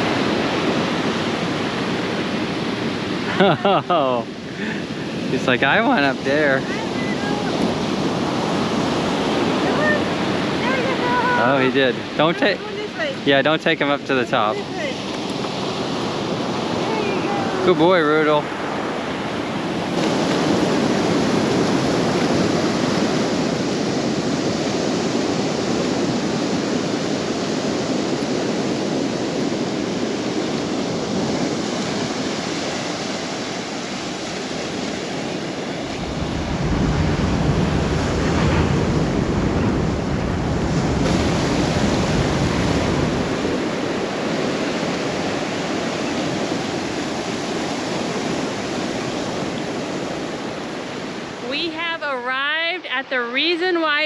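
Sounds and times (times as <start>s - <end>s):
ocean surf breaking: 0.0s - 54.0s
wind rumble on microphone: 0.0s - 54.0s.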